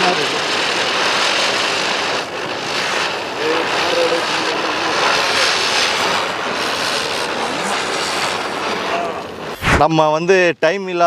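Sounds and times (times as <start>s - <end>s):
firework burning with hiss: 0.0s - 9.9s.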